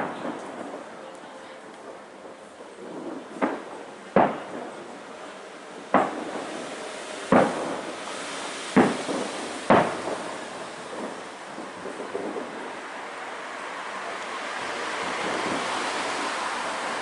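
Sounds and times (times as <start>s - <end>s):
distant fireworks bangs: 0.0s - 17.0s.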